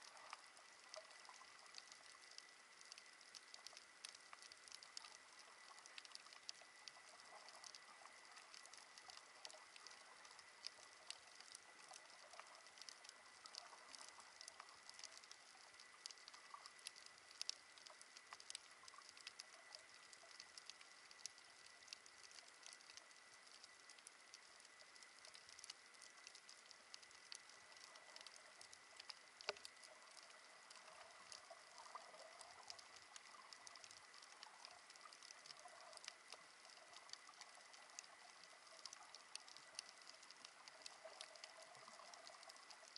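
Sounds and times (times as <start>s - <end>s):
snapping shrimp crackle underwater: 0.0s - 42.9s.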